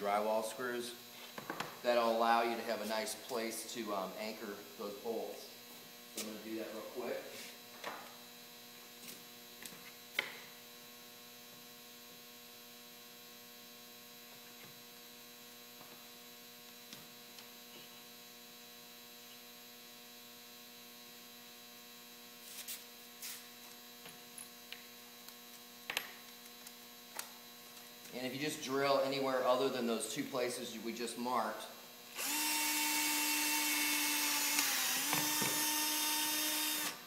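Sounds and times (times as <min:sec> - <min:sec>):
faint mains hum: 0:00.0 - 0:37.0.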